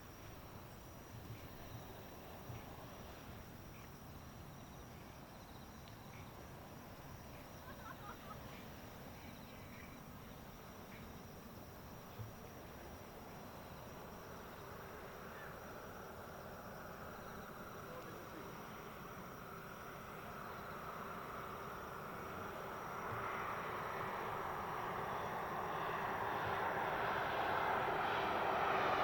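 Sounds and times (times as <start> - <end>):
faint background noise: 0.0 - 29.0
insects chirping and trilling: 0.0 - 29.0.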